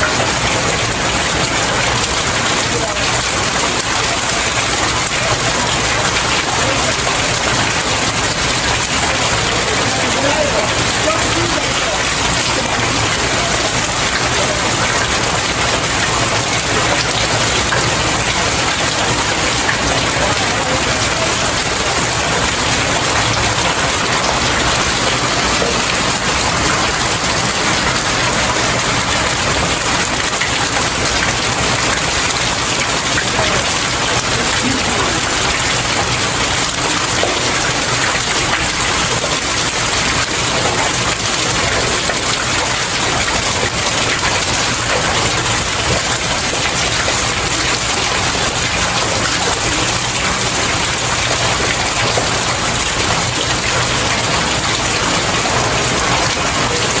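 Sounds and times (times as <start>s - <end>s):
rain falling on stairs: 0.0s - 57.0s.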